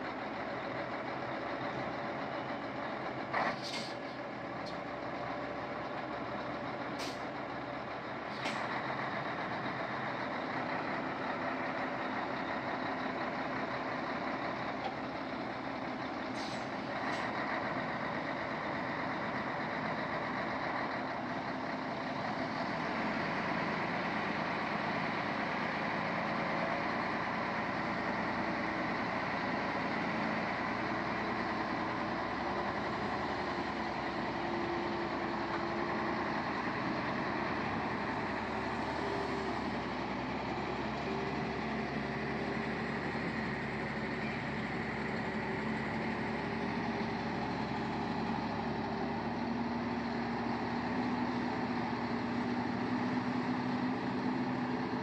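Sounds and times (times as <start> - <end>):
heavy diesel engines under load: 0.0 - 55.0.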